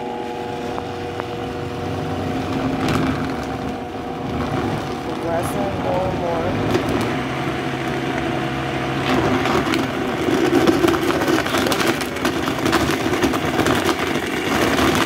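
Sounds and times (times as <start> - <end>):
blender motor running: 0.0 - 15.0.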